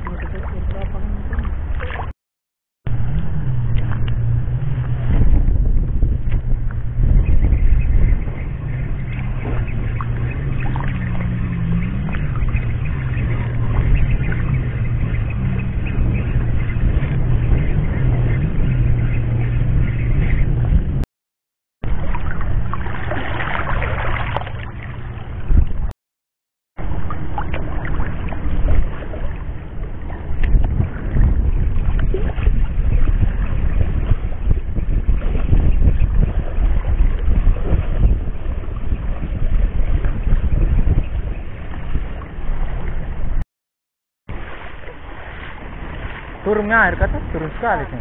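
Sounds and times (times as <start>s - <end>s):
wind: 0.0s - 2.1s, 2.9s - 21.1s, 21.8s - 25.9s, 26.8s - 43.4s, 44.3s - 48.0s
water noise: 0.0s - 2.2s, 2.9s - 21.1s, 21.8s - 26.0s, 26.8s - 43.4s, 44.3s - 48.0s.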